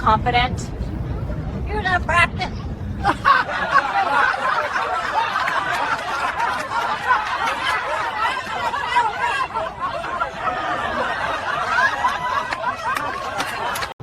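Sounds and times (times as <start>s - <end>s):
crowd laughing: 2.8s - 14.0s.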